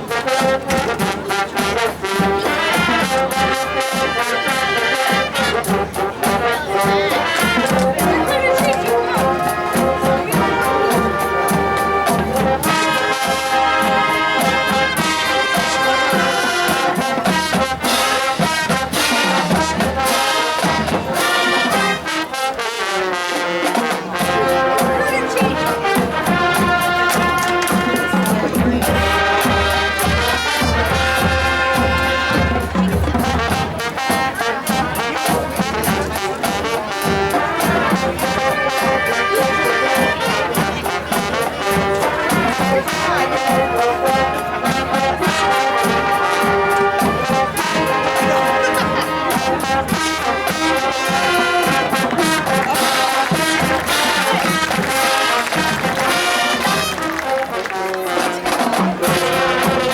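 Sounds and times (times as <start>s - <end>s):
drumline: 0.0s - 59.9s
marching band brass: 0.0s - 59.9s.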